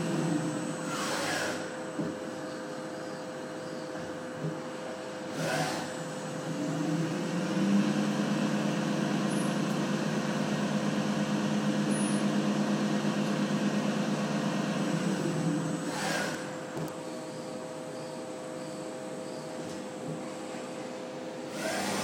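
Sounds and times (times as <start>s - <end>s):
machine spindle whine: 0.0s - 4.0s, 5.3s - 19.8s.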